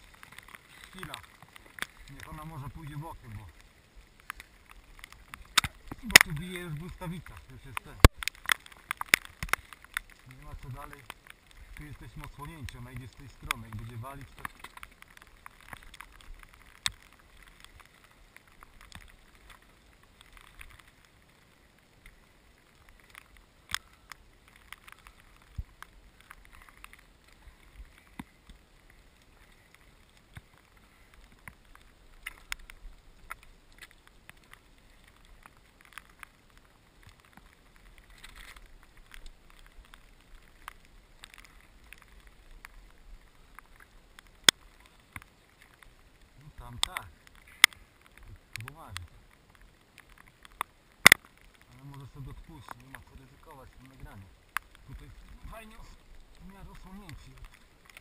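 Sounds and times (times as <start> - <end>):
faint steady hiss: 0.0 - 58.0
raindrops ticking on camera: 0.0 - 58.0.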